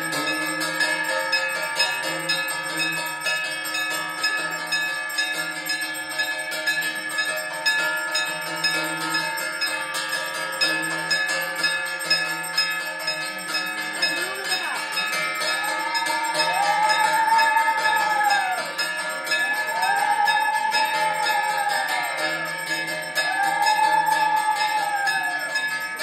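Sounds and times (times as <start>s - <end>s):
temple bells ringing: 0.0s - 26.0s.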